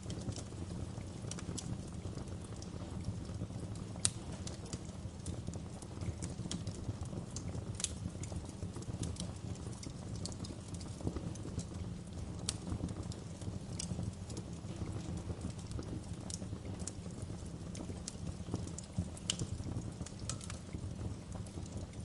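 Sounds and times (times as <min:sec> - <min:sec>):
sharp pops and snaps of fire: 0:00.0 - 0:22.0
wood fire crackling: 0:00.0 - 0:22.0.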